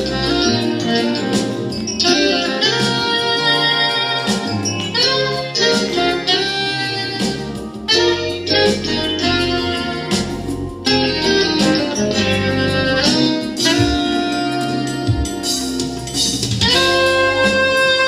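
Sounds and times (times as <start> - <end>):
keyboard chords: 0.0 - 18.0
live instrumental jazz: 0.0 - 18.0.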